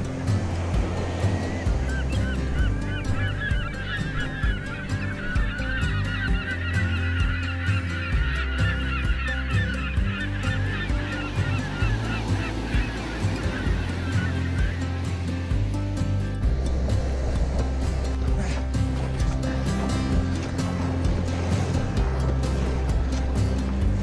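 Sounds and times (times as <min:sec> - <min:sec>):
background music with beat: 0:00.0 - 0:24.0
flock of birds calling: 0:00.1 - 0:24.0.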